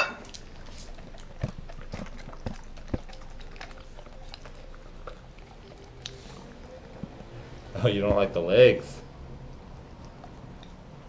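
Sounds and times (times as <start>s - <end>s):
dog chewing and licking: 0.0s - 8.4s, 9.4s - 11.0s.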